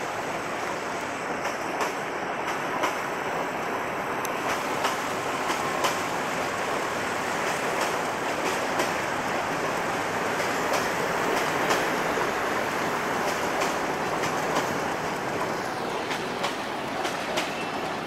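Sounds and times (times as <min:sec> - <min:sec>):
train coaches rolling past: 0:00.0 - 0:18.0
wheels clacking over rail joints: 0:00.0 - 0:18.0.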